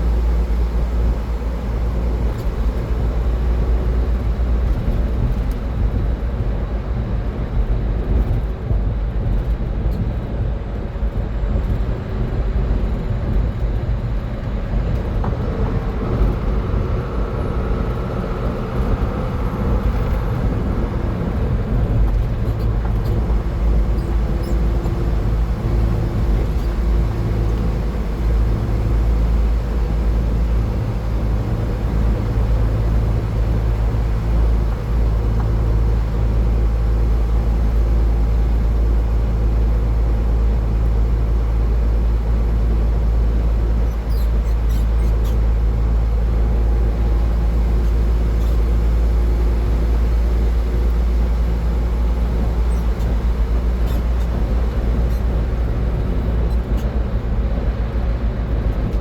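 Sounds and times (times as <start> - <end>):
car driving at highway speed: 0.0 - 59.0.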